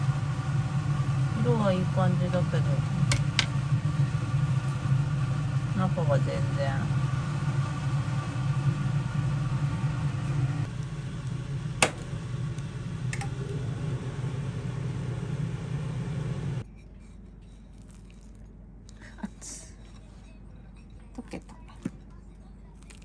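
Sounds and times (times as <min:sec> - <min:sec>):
appliance motor and fan humming: 0:00.0 - 0:23.0.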